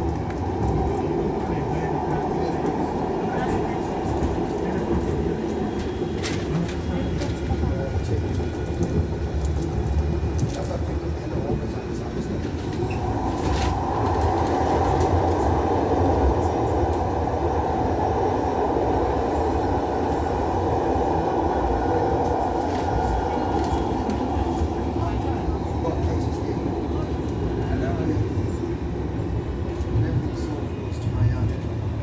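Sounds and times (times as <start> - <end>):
tram wheels rumbling on rail: 0.0 - 32.0.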